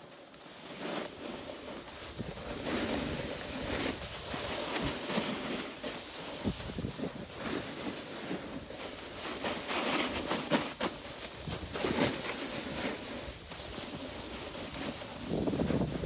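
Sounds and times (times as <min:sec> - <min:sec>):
snowboard scraping over snow: 0:00.0 - 0:16.0.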